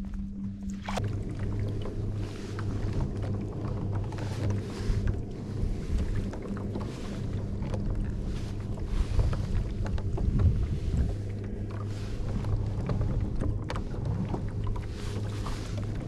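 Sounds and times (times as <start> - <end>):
small knocks and splashes: 0.0 - 16.0
steady low hum: 0.0 - 16.0
water sloshing against kayak hull: 0.0 - 16.0
wind on microphone: 0.0 - 16.0.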